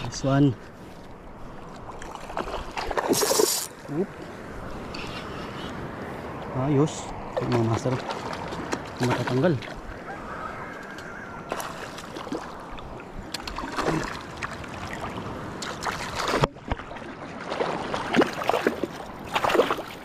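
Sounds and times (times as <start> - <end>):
water sloshing and lapping: 0.0 - 20.0.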